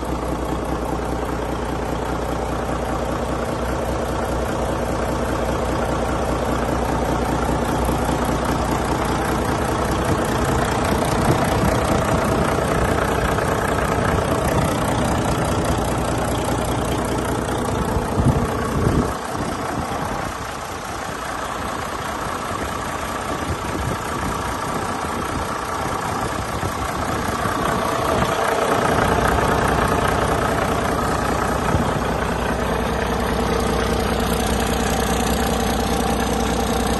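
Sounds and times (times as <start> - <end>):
diesel truck engine rumbling: 0.0 - 36.9.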